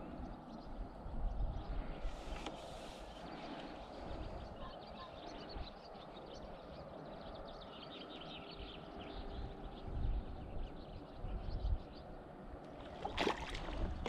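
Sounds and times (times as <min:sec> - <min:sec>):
wind on microphone: 0:00.0 - 0:06.0, 0:08.7 - 0:14.0
small birds chirping: 0:00.0 - 0:14.0.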